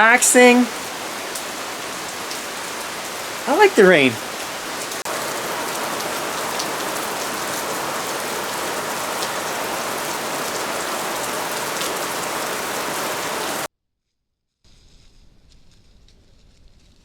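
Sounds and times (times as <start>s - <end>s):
rain pattering: 0.0s - 13.7s.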